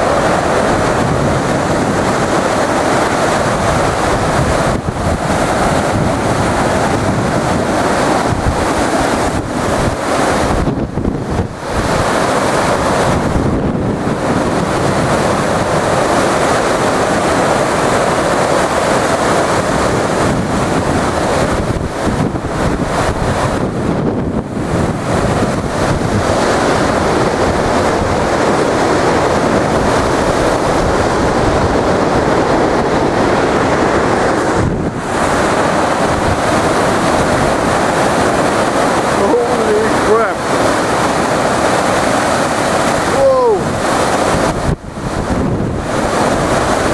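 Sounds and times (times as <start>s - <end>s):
strong wind buffeting microphone: 0.0s - 46.9s.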